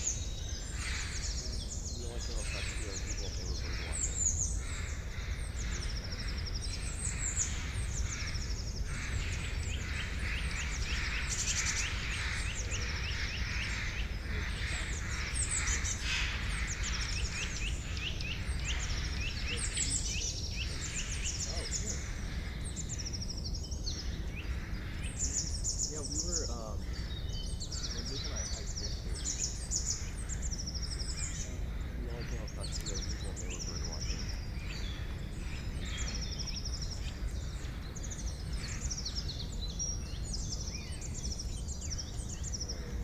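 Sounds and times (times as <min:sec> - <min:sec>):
forest birds chirping: 0:00.0 - 0:43.0.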